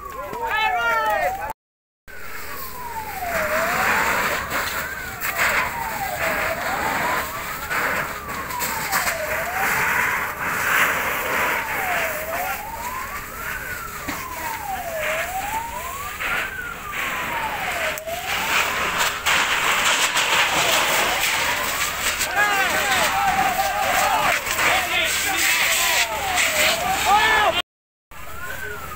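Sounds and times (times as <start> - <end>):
emergency siren wailing: 0.0 - 28.9.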